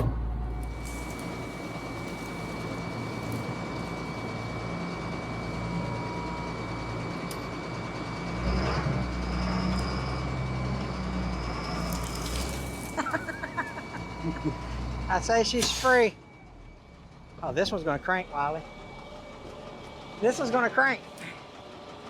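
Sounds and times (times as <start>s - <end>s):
steady engine hum: 0.0s - 22.0s.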